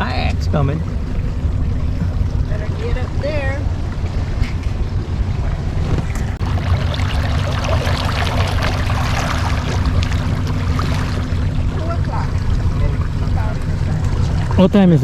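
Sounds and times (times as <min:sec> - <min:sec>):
boat motor running: 0:00.0 - 0:15.0
steady low hum: 0:00.0 - 0:15.0
water rushing past hull: 0:00.0 - 0:15.0.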